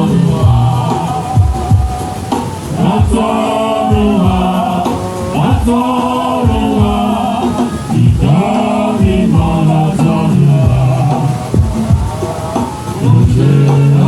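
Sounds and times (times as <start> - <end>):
gospel singing voices: 0.0 - 14.0
instrumental backing with low beat: 0.0 - 14.0.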